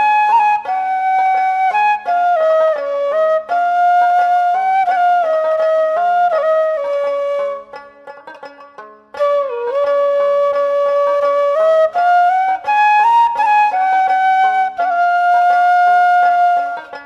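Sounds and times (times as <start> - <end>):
slow flute melody: 0.0 - 7.9, 9.2 - 17.0.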